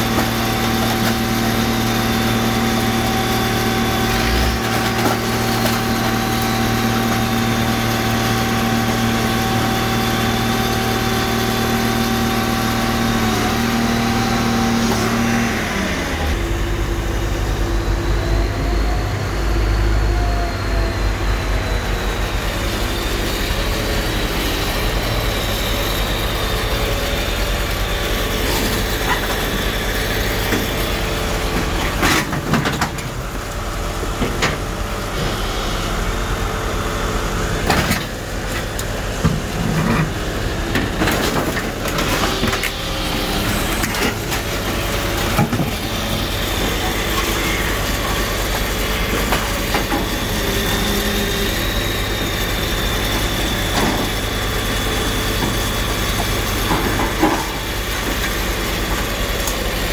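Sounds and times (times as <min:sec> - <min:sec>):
hydraulic power unit running: 0:00.0 - 0:59.9.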